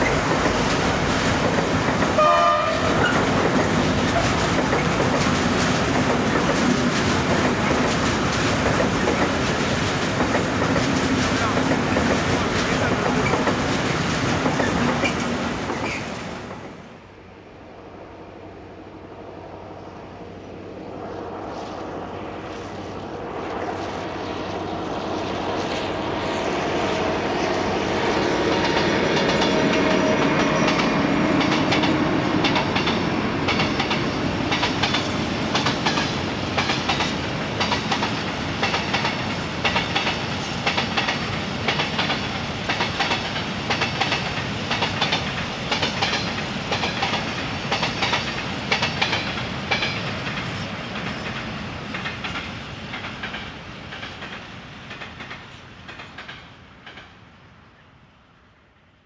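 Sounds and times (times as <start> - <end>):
train wheels clickety-clack: 0.0 - 16.8, 22.5 - 57.2
diesel locomotive engine: 0.0 - 59.0.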